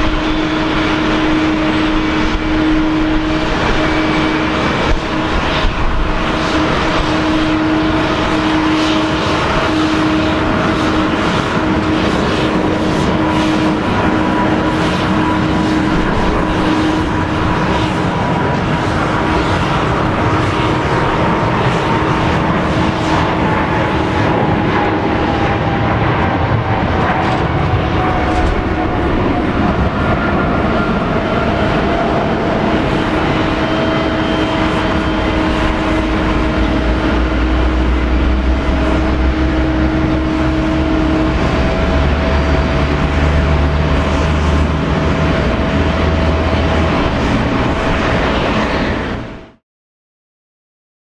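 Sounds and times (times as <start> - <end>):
jet engines at takeoff thrust: 0.0 - 49.6.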